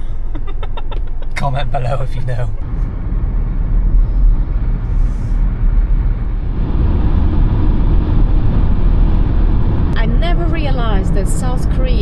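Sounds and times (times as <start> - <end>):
car engine: 0.0 - 12.0
road and tyre noise: 0.0 - 12.0.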